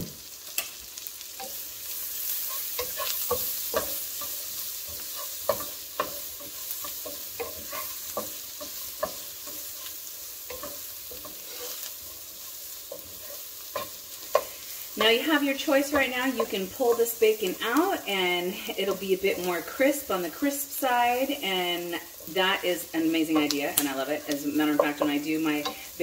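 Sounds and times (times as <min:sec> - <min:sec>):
bacon and onions sizzling: 0:00.0 - 0:26.0
spatula scraping and tapping pan: 0:01.4 - 0:20.5, 0:21.1 - 0:26.0.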